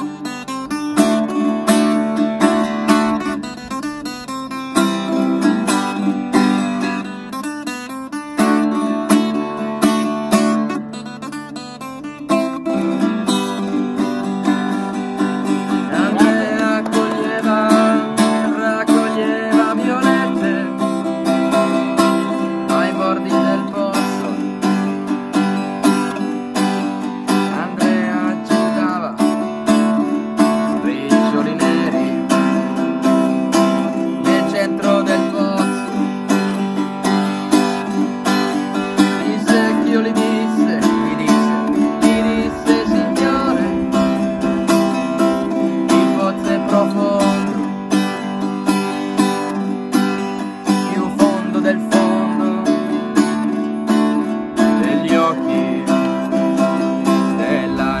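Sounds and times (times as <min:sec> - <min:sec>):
acoustic guitar strumming chords: 0:00.0 - 0:58.0.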